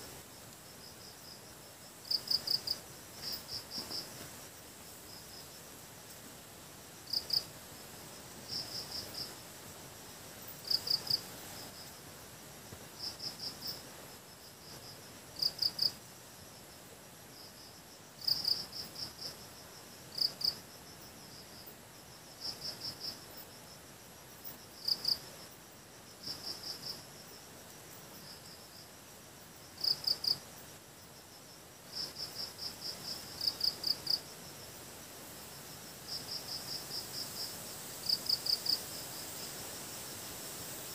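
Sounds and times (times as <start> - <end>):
faint steady hiss: 0.0 - 40.9
insect chirping: 0.0 - 40.9.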